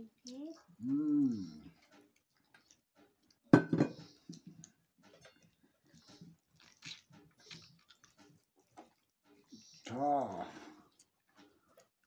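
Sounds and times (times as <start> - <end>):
crunchy chewing: 0.2 - 9.9.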